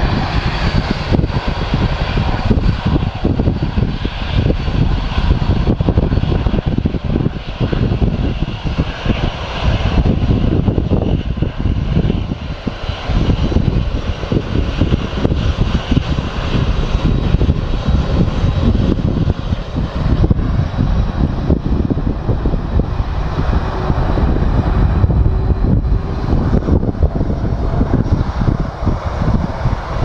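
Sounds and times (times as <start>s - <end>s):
high jet engine whine: 0.0s - 30.0s
jet engines rumbling: 0.0s - 30.0s.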